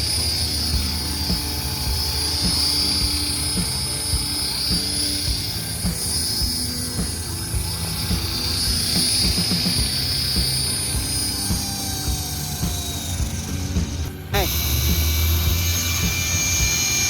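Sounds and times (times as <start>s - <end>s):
rc helicopter motor whine: 0.0s - 17.0s
rotor noise: 0.0s - 17.0s.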